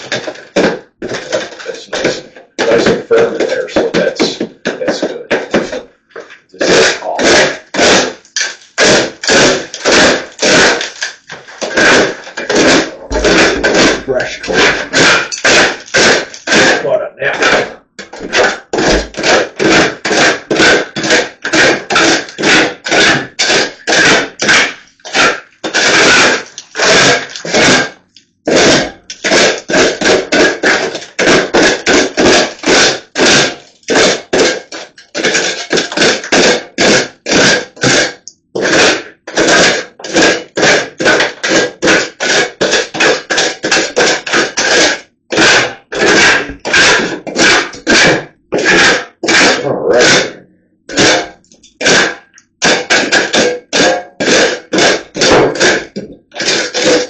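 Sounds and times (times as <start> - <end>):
drywall knife scraping a wall: 0.0 - 57.0.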